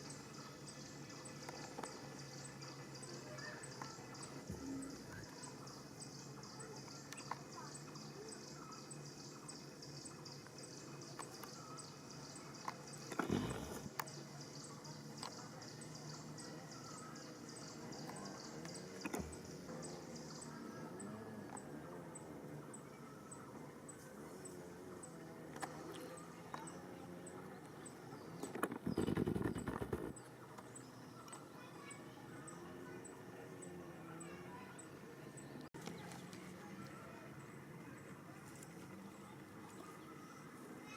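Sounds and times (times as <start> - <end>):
bird chirps: 0.0 - 36.3.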